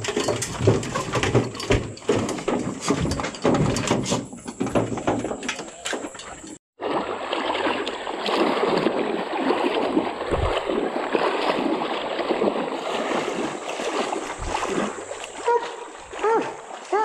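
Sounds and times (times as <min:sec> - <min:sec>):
water sloshing from wading: 0:00.0 - 0:17.0.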